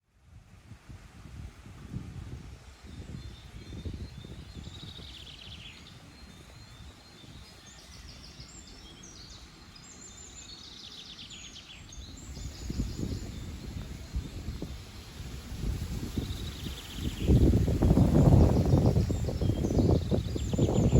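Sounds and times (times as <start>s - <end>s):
gusty wind rumble: 0.2s - 10.2s, 11.8s - 20.9s
songbird singing: 2.6s - 20.9s.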